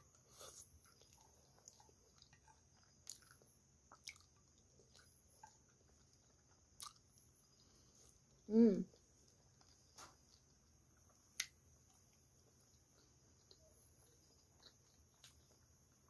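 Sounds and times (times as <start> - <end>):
chewing and wet mouth sounds: 0.1 - 16.0.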